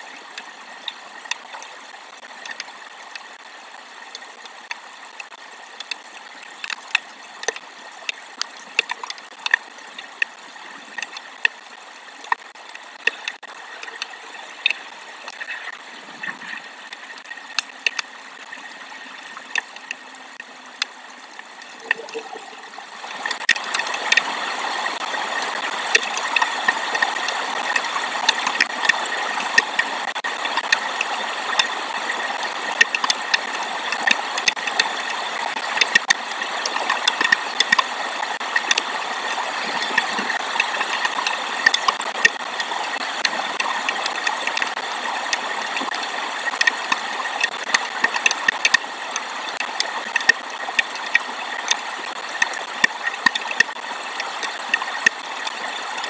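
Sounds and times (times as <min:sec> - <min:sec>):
rain hitting a microphone: 0:00.0 - 0:56.0.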